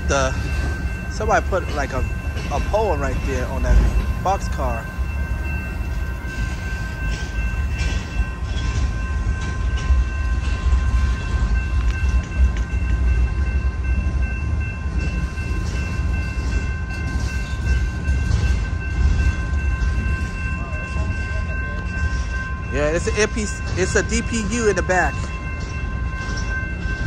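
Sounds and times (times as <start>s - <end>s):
steady high tone: 0.0s - 27.0s
train cars rumbling past: 0.0s - 27.0s.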